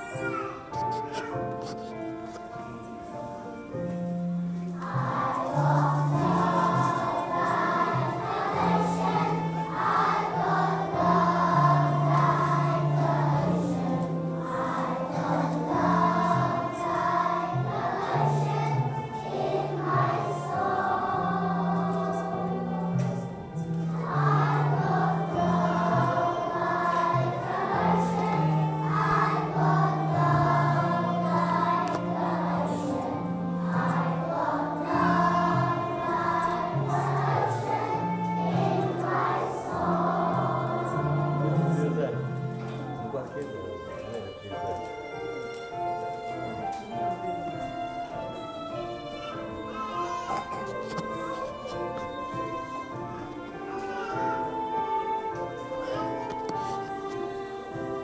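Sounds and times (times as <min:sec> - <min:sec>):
children singing together: 0:00.0 - 0:02.4, 0:04.7 - 0:43.1, 0:46.8 - 0:58.0.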